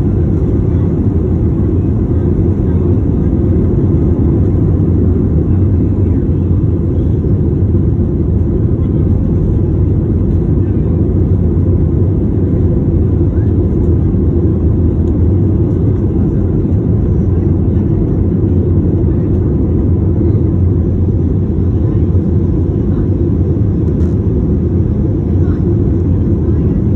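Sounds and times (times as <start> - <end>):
jet engine cabin rumble: 0.0 - 26.9.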